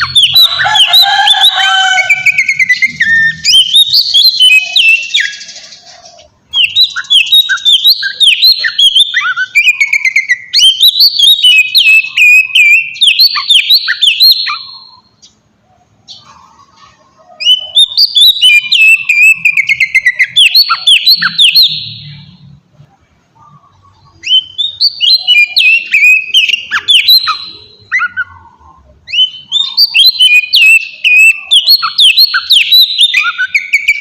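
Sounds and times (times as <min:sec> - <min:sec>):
bird singing whistled notes: 0:00.0 - 0:05.8, 0:06.4 - 0:15.4, 0:17.4 - 0:22.4, 0:23.7 - 0:28.4, 0:29.0 - 0:34.0.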